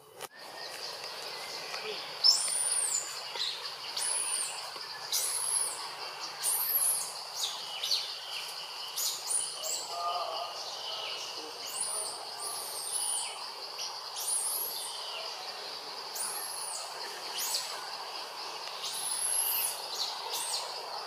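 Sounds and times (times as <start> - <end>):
insect drone: 0.0 - 21.0
birds chirping high-pitched: 0.3 - 21.0.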